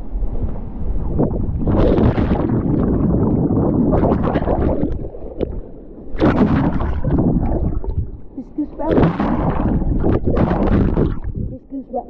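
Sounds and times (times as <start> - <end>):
muffled underwater churning and bubbling: 0.0 - 12.0.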